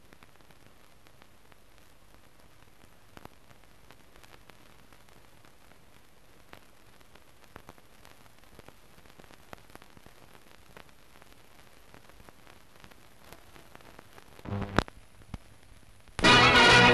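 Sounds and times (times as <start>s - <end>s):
film hiss with crackles: 0.0s - 16.9s.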